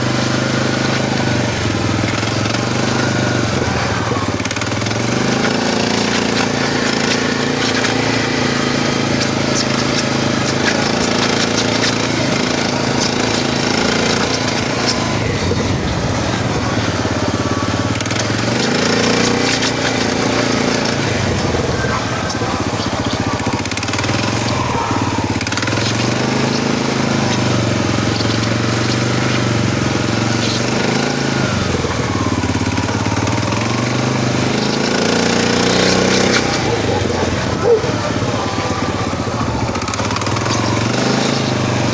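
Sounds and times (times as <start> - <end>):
engine knocking and grinding: 0.0 - 41.9
engine running: 0.0 - 41.9.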